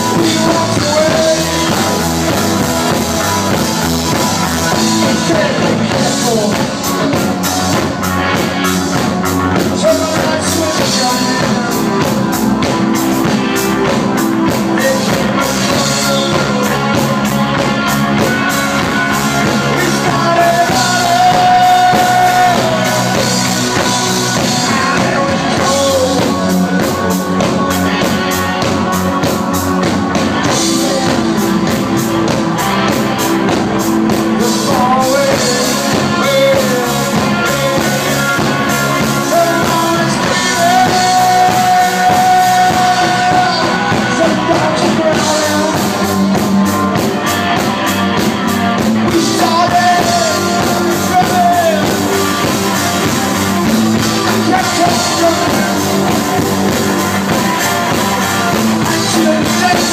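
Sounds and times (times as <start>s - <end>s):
man singing: 0.0s - 59.9s
rock band playing: 0.0s - 59.9s.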